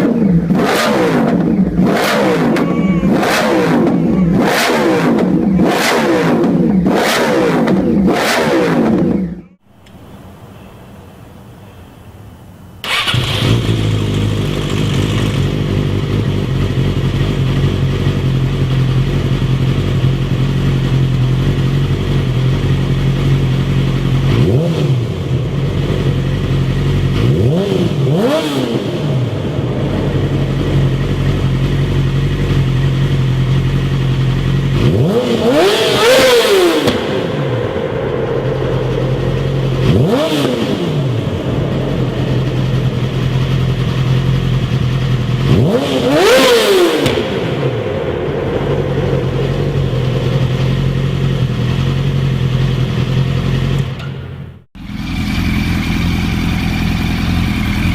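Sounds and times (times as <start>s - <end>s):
motorcycle engine idling and revving: 0.0s - 9.6s, 12.8s - 57.9s.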